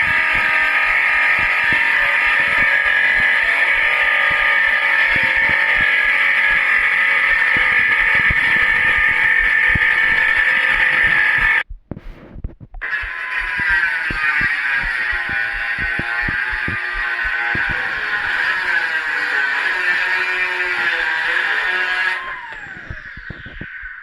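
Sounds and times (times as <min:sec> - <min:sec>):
loud machine whine: 0:00.0 - 0:11.6, 0:12.8 - 0:24.0.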